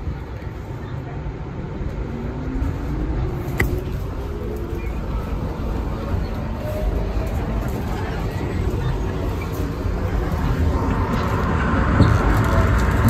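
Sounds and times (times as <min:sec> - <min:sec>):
subway car rumbling: 0:00.0 - 0:13.0.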